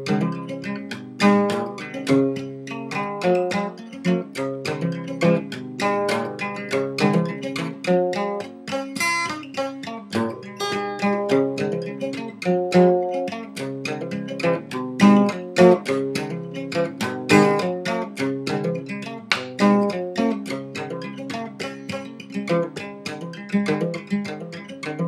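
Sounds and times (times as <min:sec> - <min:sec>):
acoustic guitar plucking: 0:00.0 - 0:25.0.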